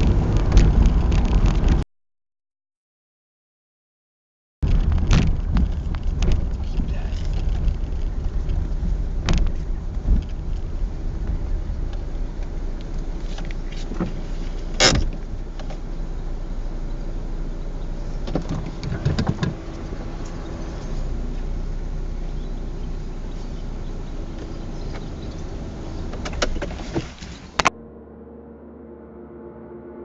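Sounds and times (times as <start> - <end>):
car engine rumble inside cabin: 0.0 - 1.8, 4.6 - 30.0.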